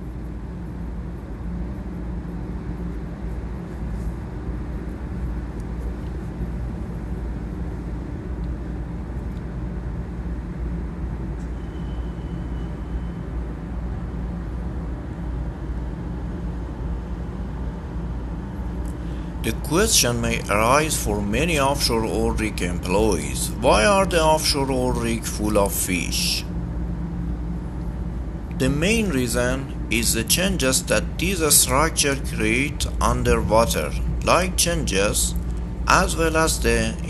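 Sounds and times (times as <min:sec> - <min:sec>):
constant hum: 0:00.0 - 0:37.0
low machinery rumble: 0:00.0 - 0:37.0.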